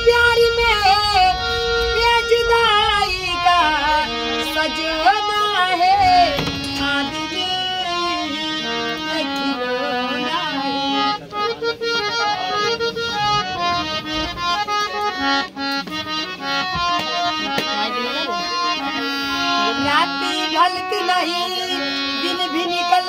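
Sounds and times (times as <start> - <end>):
harmonium melody: 0.0 - 23.0.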